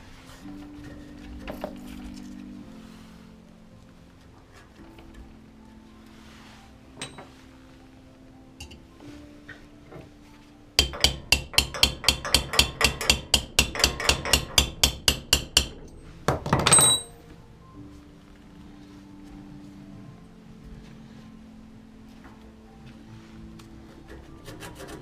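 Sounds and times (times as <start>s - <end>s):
faint background music: 0.0s - 25.0s.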